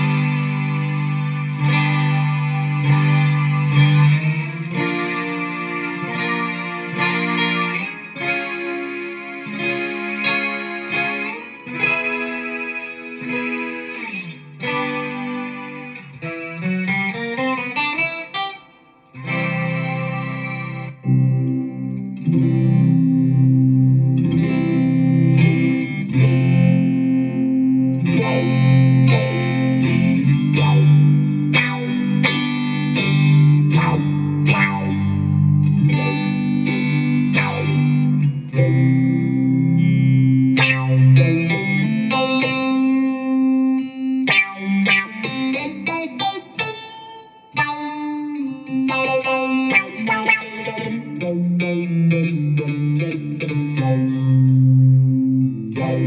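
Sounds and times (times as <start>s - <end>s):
synth guitar tones: 0.0s - 56.0s.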